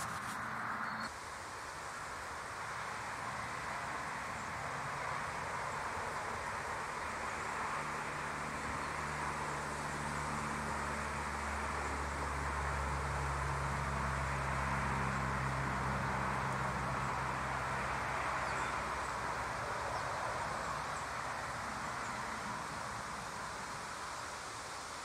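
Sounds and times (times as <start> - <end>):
distant vehicle engine hum: 0.0 - 25.0
steady rushing hiss: 0.0 - 25.0.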